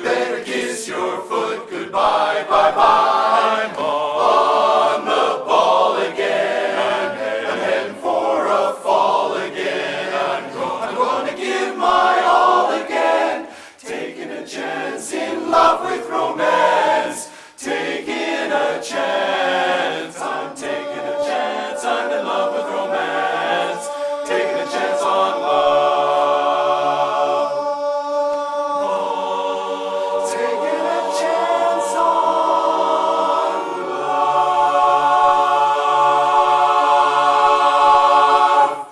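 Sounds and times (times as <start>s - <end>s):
men's chorus singing a cappella: 0.0s - 38.9s.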